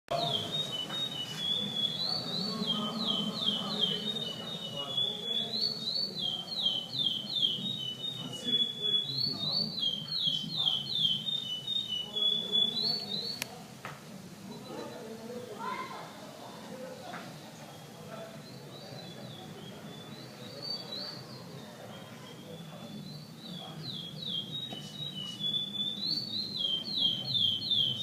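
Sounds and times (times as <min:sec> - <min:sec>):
finch singing whistled notes: 0:00.1 - 0:13.5, 0:17.6 - 0:28.0
faint murmur of voices: 0:00.1 - 0:28.0.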